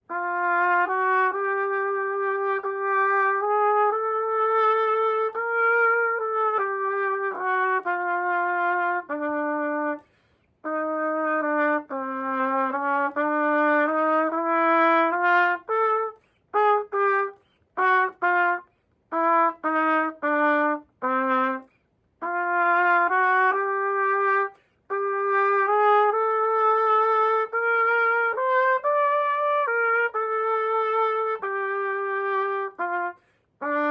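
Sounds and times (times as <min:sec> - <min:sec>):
trumpet melody: 0:00.0 - 0:33.9.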